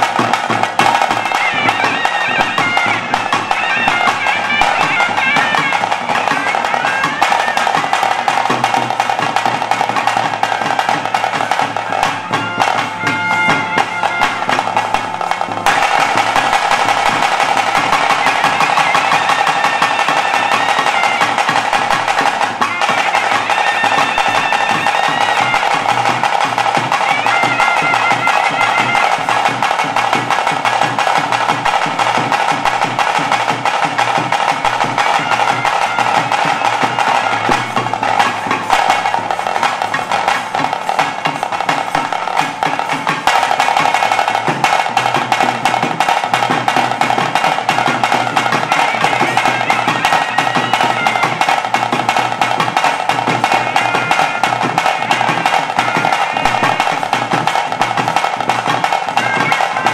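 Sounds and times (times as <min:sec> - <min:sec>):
high reed pipe melody: 0:00.0 - 0:29.5, 0:34.4 - 0:44.8, 0:46.1 - 0:59.9
fast dense drumming: 0:00.0 - 0:59.9.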